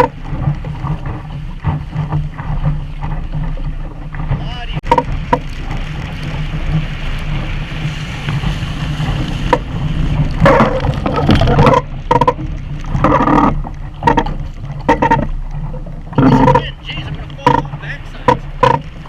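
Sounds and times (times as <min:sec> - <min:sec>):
water rushing along hull: 0:00.0 - 0:19.0
water splashing: 0:00.0 - 0:19.0
wind buffeting microphone: 0:00.0 - 0:19.0.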